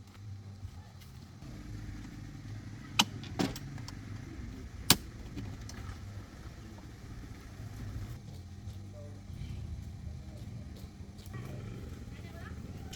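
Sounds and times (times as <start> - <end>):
engine idling: 0.0 - 12.9.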